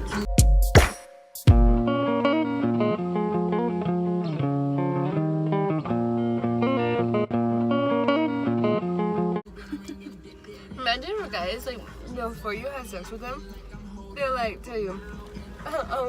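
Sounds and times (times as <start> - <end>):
plucked guitar music: 1.5 - 15.3.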